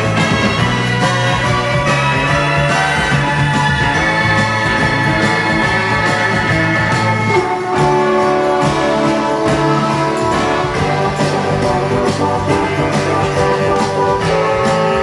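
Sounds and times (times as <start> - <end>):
christmas song: 0.0 - 15.0.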